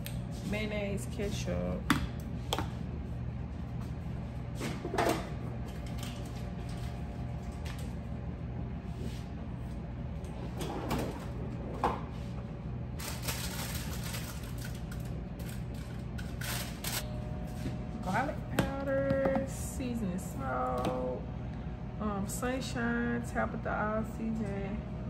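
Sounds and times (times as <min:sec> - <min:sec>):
refrigerator hum: 0:00.0 - 0:25.0.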